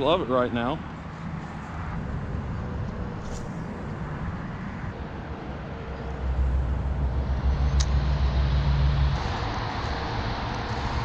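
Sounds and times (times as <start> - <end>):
steady traffic rumble: 0.0 - 11.0
heavy vehicle passing: 0.7 - 11.0.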